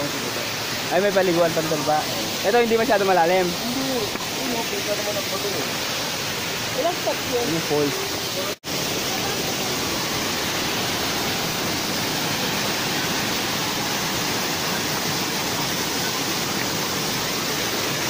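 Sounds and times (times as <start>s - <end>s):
waterfall rushing over rocks: 0.0s - 18.0s.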